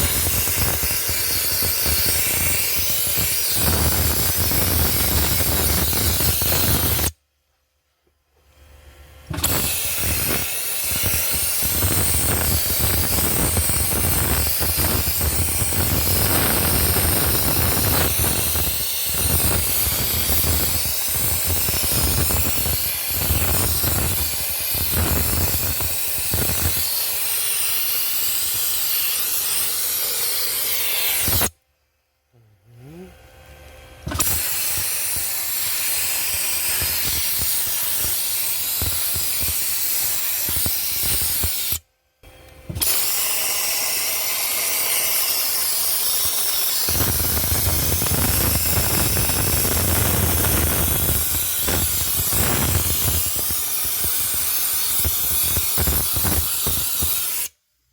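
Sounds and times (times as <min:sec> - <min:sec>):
dry ice blaster hissing: 0:00.0 - 0:07.2, 0:09.3 - 0:31.6, 0:34.0 - 0:41.9, 0:42.6 - 0:57.6.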